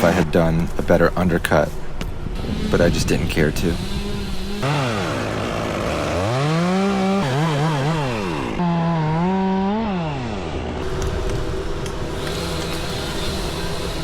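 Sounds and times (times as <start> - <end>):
chainsaw engine revving: 0.0 - 0.3, 2.4 - 14.0.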